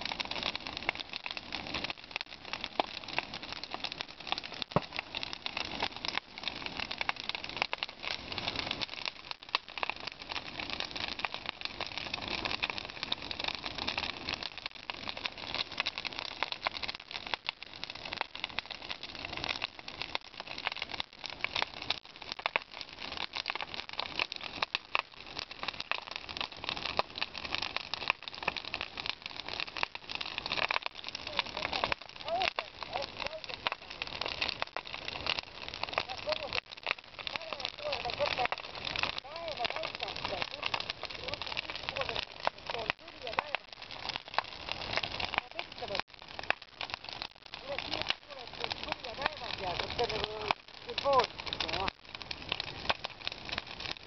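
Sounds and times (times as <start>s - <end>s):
bonfire crackling: 0.0s - 54.0s.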